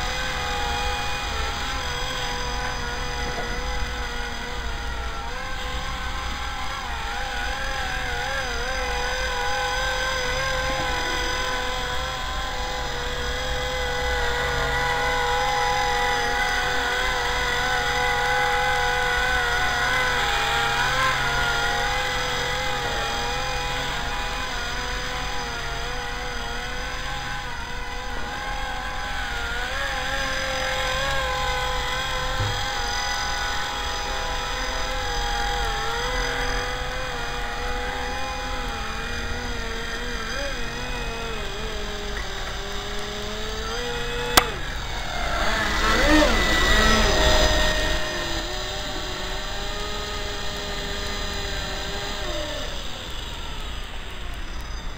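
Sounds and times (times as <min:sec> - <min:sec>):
rc helicopter motor whining: 0:00.0 - 0:54.9.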